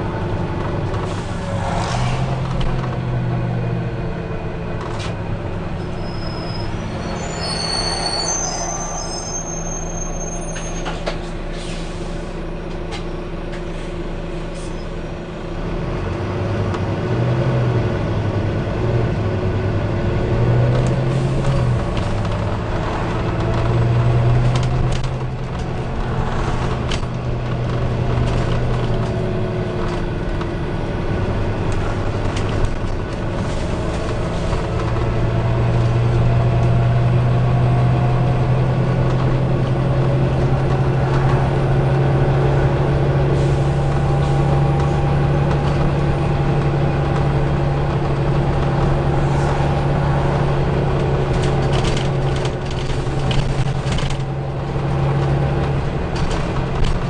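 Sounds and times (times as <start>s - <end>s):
bus diesel engine drone: 0.0s - 57.0s
bus interior rattles and clicks: 0.0s - 57.0s.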